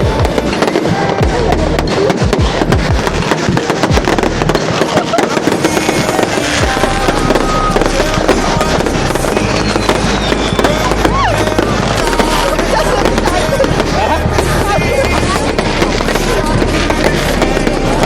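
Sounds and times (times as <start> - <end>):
firework whistle: 0.0 - 18.0
fireworks cracking and popping: 0.0 - 18.0.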